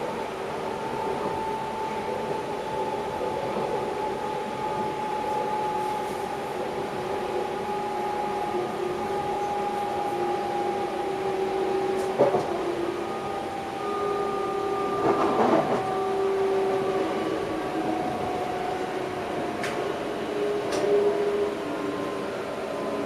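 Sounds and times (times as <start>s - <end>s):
electric train running: 0.6s - 23.0s.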